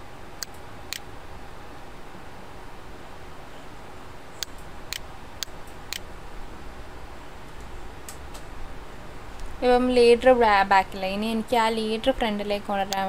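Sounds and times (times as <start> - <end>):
room hiss and low hum: 0.0 - 13.0.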